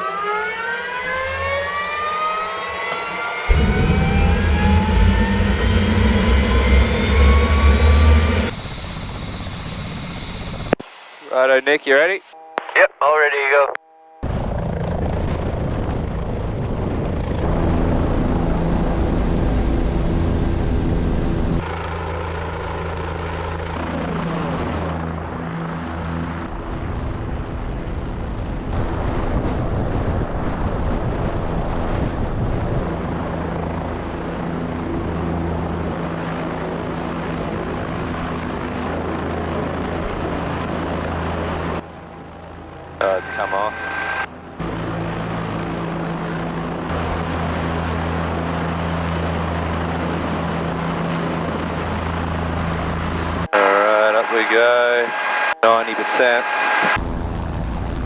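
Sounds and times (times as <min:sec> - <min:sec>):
helicopter running: 0:01.0 - 0:10.8, 0:14.2 - 0:58.0.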